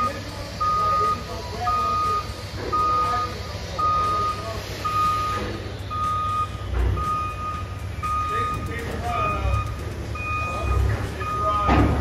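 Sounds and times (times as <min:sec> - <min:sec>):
alarm beeping: 0:00.0 - 0:12.0
construction site rumble: 0:00.0 - 0:12.0.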